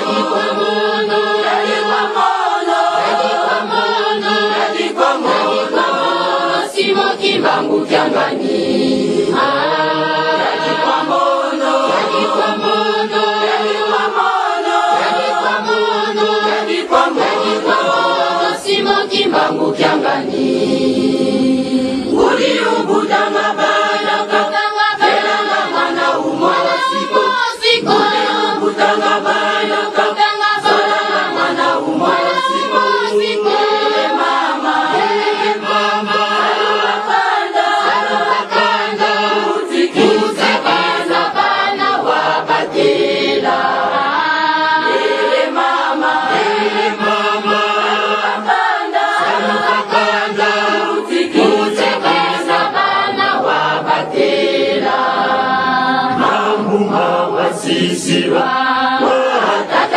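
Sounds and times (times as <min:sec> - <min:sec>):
women's choir singing: 0:00.0 - 0:59.9.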